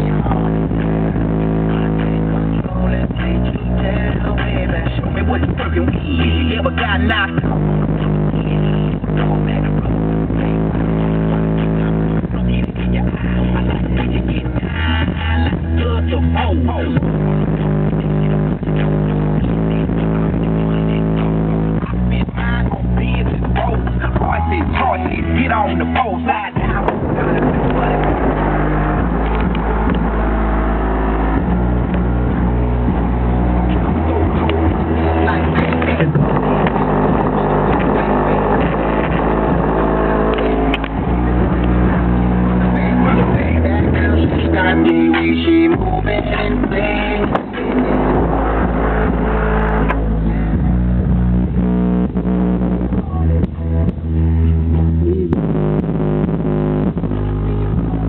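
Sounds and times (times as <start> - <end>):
rap music with heavy bass: 0.0 - 58.0.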